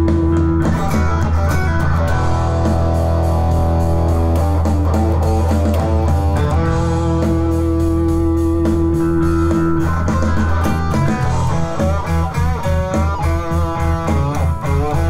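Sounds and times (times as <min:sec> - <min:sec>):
bass line: 0:00.0 - 0:15.0
electric guitar rock riff: 0:00.0 - 0:15.0.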